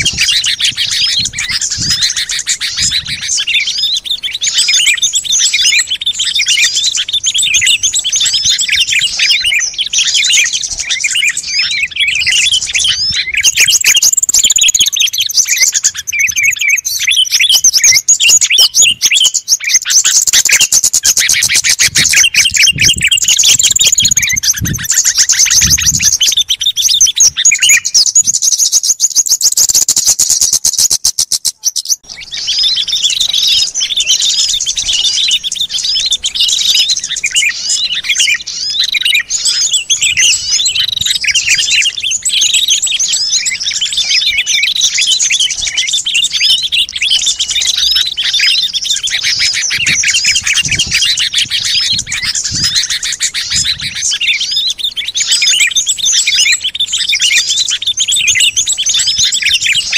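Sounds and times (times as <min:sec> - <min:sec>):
fast rattling bird trill: 0:00.0 - 0:59.9
small songbirds chirping: 0:00.0 - 0:59.9.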